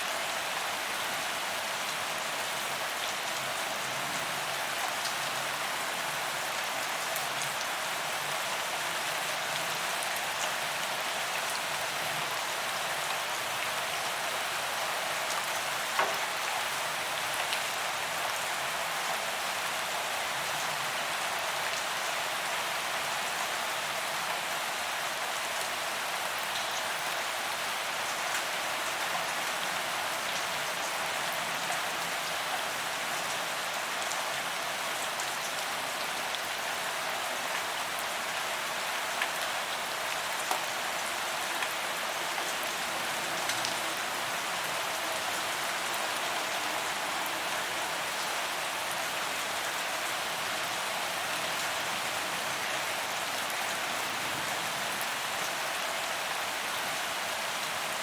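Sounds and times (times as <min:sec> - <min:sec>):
rain on pavement: 0:00.0 - 0:58.0.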